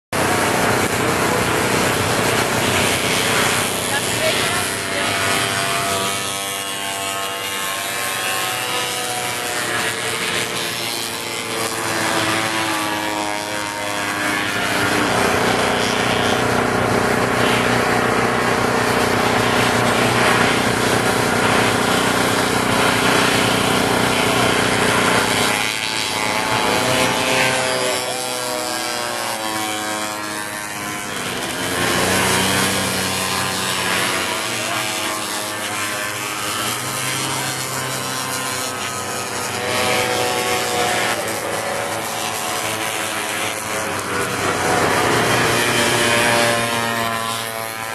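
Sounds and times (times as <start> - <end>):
snowmobile engines revving high: 0.2 - 47.9.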